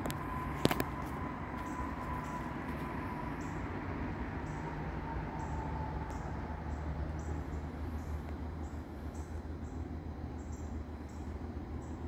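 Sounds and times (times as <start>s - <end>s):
crickets chirping: 0.0s - 12.0s
distant road traffic rumble: 0.0s - 12.0s.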